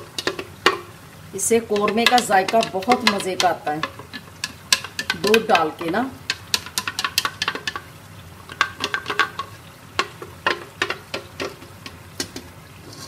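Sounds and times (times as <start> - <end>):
metal ladle knocking and scraping: 0.0 - 0.9, 1.7 - 7.9, 8.5 - 13.0
low sizzle: 0.0 - 13.0.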